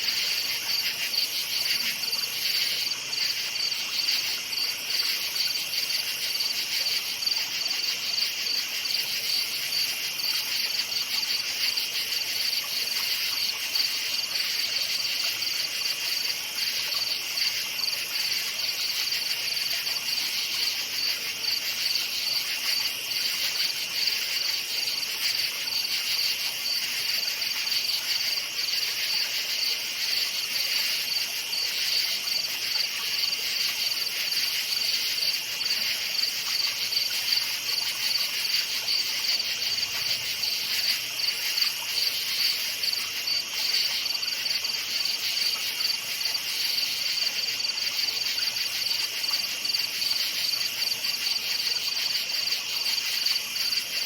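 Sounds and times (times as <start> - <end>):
lower cricket chirping: 0.0 - 54.0.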